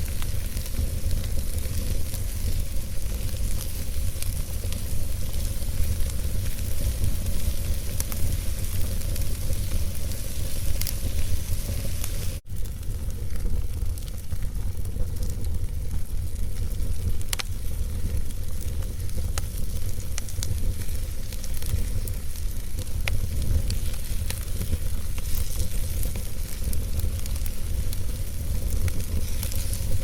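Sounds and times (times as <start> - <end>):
logs crackling and popping: 0.0 - 30.0
wood fire rumbling: 0.0 - 30.0.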